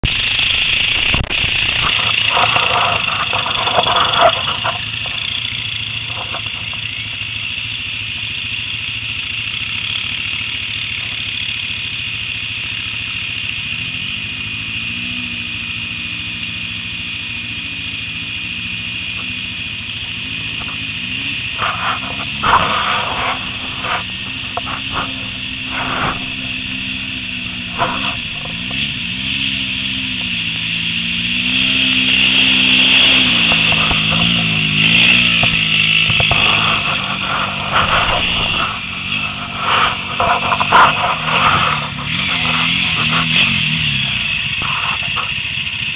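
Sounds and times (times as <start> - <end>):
atv engines running: 0.0 - 45.9.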